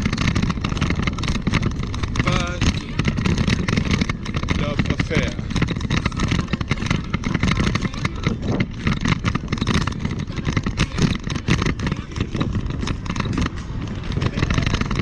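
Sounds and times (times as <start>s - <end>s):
rumble of rolling over asphalt: 0.0s - 15.0s
wind buffeting microphone: 0.0s - 15.0s.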